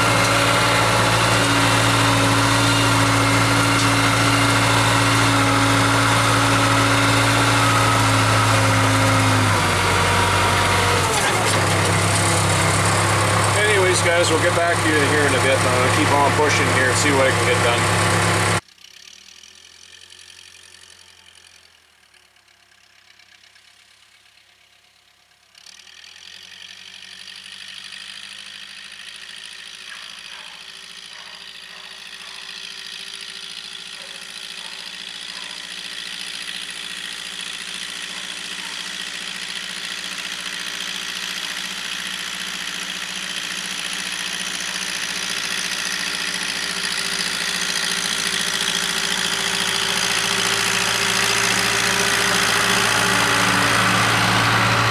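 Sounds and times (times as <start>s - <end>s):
diesel engine running: 0.0s - 18.6s, 25.8s - 54.9s.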